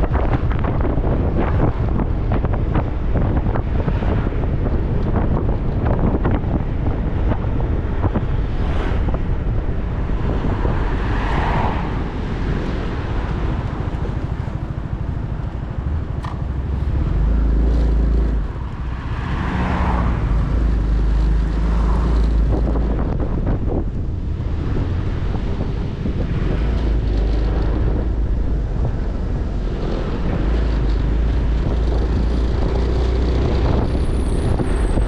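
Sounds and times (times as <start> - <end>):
motorcycle engine and tyres: 0.0 - 35.0
passing traffic noise: 0.0 - 35.0
wind buffeting microphone: 0.0 - 35.0.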